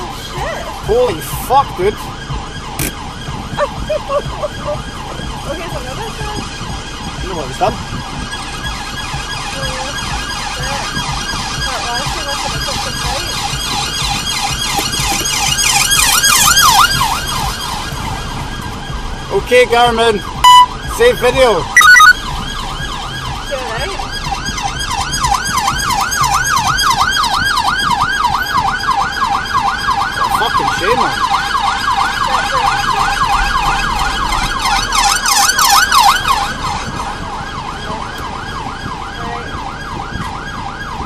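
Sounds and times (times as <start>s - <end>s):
police siren yelping: 0.0s - 41.0s.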